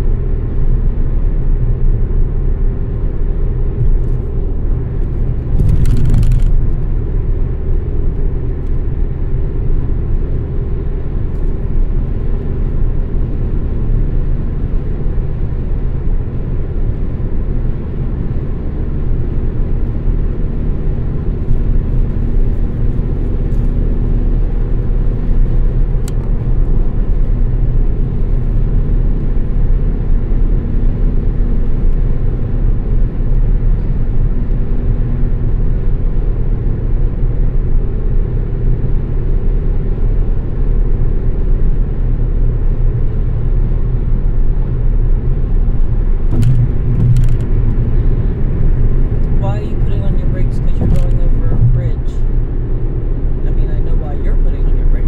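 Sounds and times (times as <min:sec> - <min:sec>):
tyre and engine rumble: 0:00.0 - 0:55.0.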